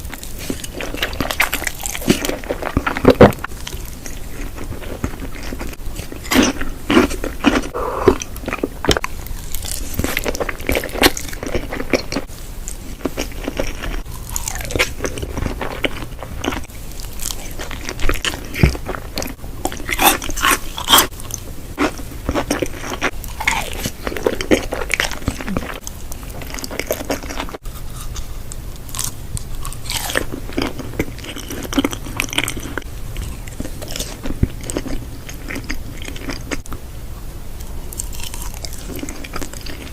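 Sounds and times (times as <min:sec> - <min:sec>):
person chewing crunchy food: 0:00.0 - 0:36.8, 0:37.6 - 0:39.9.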